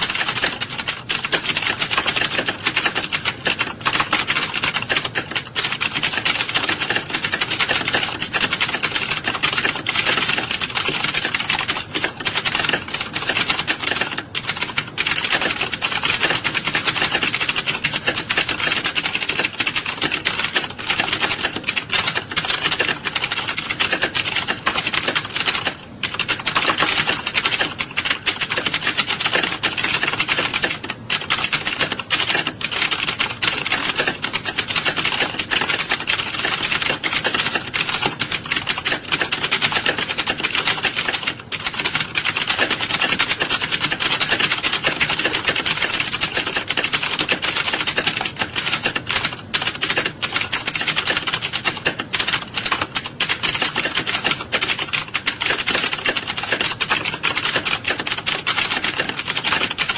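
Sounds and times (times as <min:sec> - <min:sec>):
many keyboards clattering: 0:00.0 - 0:59.9.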